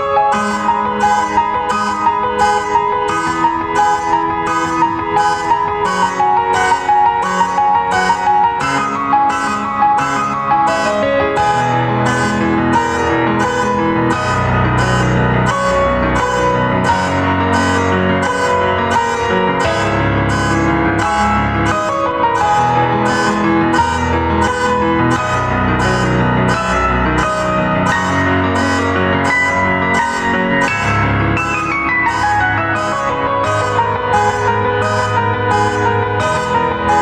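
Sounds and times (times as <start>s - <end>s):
piano music on electronic keyboard: 0.0s - 37.0s.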